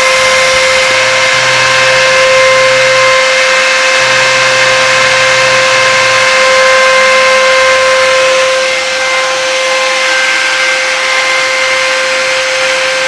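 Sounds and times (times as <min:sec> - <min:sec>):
cnc mill motor whine: 0:00.0 - 0:13.0.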